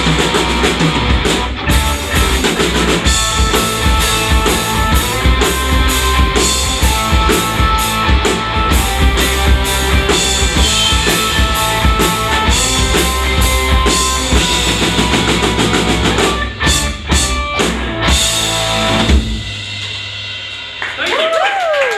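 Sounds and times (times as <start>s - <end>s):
rock band playing live: 0.0s - 21.1s
drum kit: 0.0s - 21.7s.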